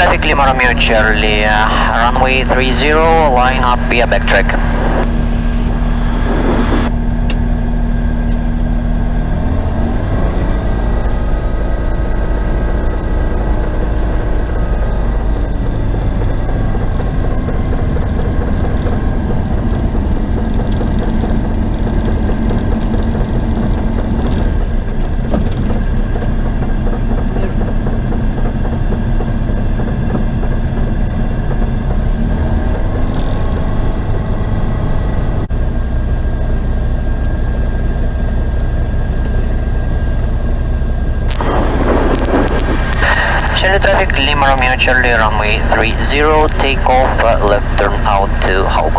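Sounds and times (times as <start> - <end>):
light aircraft engine running: 0.0 - 48.9.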